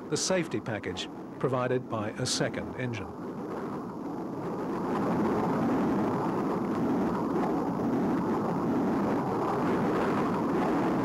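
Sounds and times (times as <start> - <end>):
jet fighter engine rush: 0.0 - 11.0.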